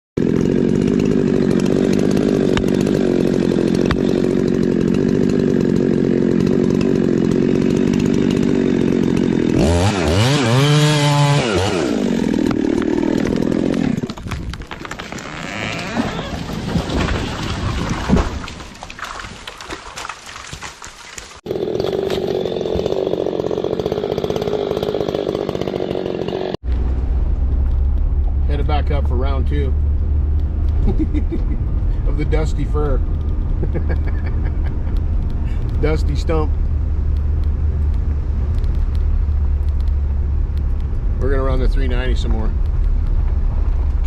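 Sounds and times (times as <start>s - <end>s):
chainsaw cutting log: 0.2s - 26.7s, 28.9s - 42.6s.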